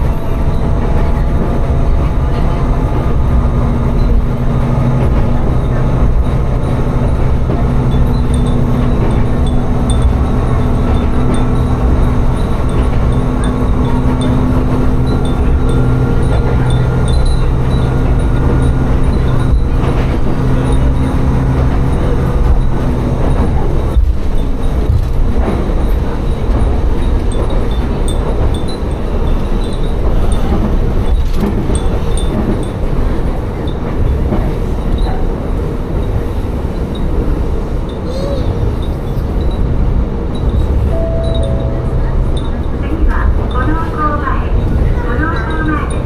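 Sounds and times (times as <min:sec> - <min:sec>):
diesel railcar engine hum: 0:00.0 - 0:46.0
wheel rumble: 0:00.0 - 0:46.0.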